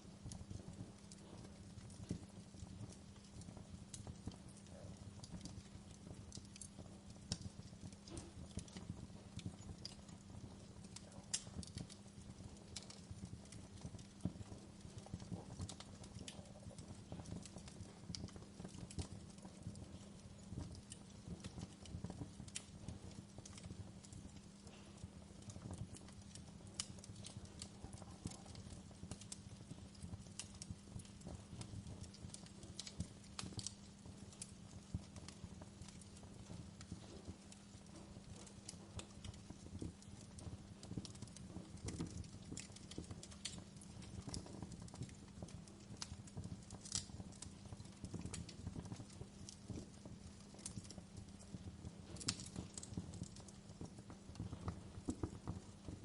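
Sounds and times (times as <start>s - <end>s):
flames rumbling: 0.0s - 56.0s
wood crackling and popping: 0.0s - 56.0s.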